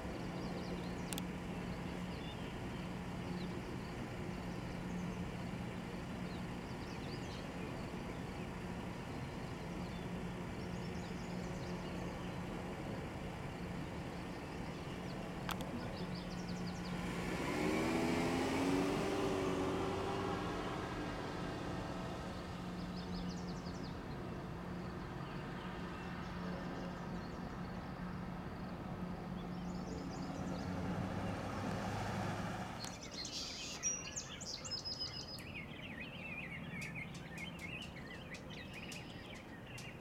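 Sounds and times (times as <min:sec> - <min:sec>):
motor vehicle passing by: 0:00.0 - 0:35.0
steady low hum: 0:00.0 - 0:40.0.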